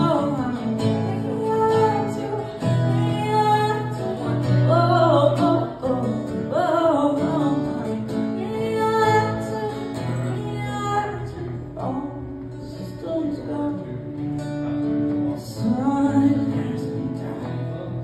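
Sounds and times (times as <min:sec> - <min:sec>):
woman singing: 0:00.0 - 0:14.3, 0:15.3 - 0:17.6
acoustic guitar strumming: 0:00.0 - 0:18.0.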